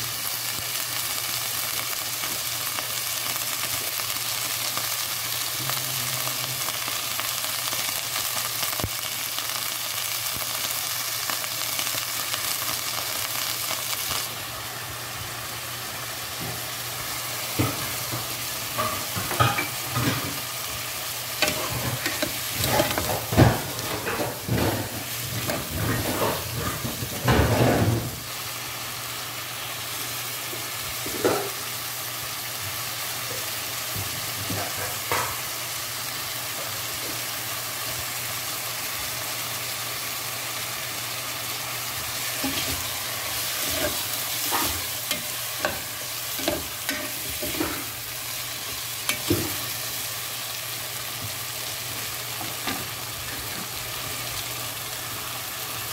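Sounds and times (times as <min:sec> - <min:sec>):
chicken sizzling in a pot: 0:00.0 - 0:55.9.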